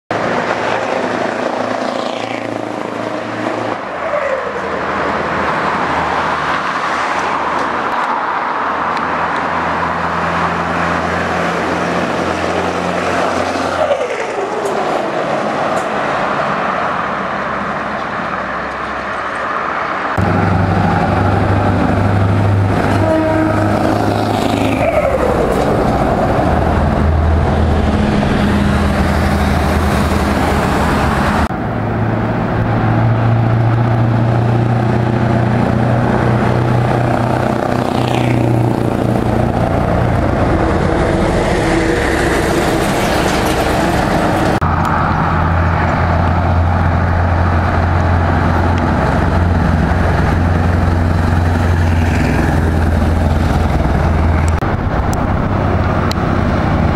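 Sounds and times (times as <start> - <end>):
loud truck engines driving: 0.1 - 56.9.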